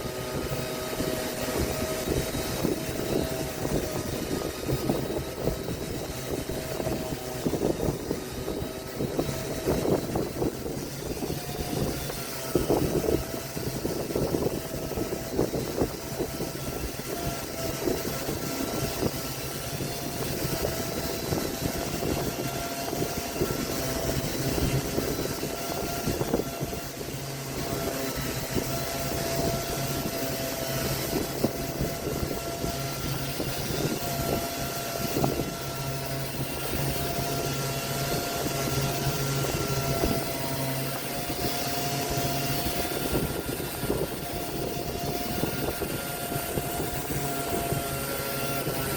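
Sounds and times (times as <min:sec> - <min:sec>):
power tool motor whine: 0:00.0 - 0:48.9
tool scratching wood: 0:00.0 - 0:48.9.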